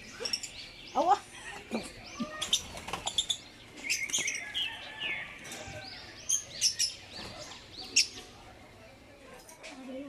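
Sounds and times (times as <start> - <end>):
lovebirds chirping: 0.0 - 9.2.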